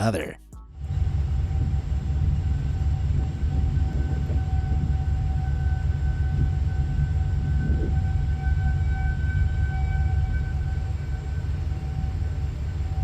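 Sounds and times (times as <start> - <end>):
warning siren tone: 0.7 - 13.0
wind buffeting microphone: 0.8 - 13.0.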